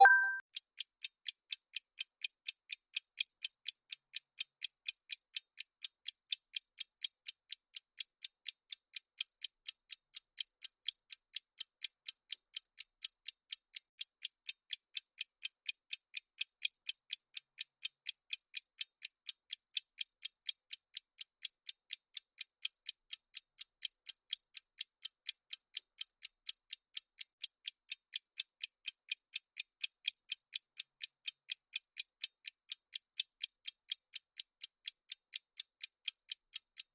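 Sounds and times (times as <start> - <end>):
clock ticking: 1.0 - 36.9.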